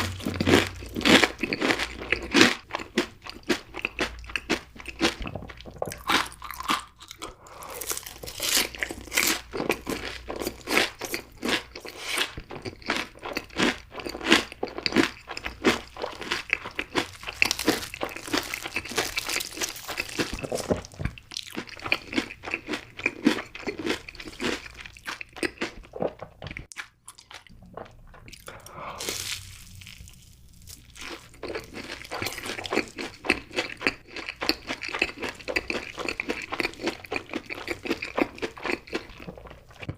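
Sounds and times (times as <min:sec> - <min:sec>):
chewing crispy food: 0:00.0 - 0:39.9.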